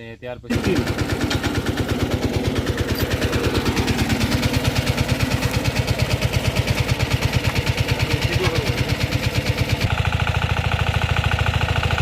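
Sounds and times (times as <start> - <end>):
diesel tractor engine running: 0.5 - 12.0.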